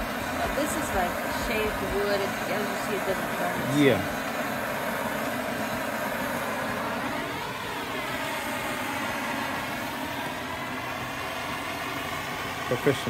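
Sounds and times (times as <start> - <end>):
blowtorch hissing roar: 0.0 - 13.0.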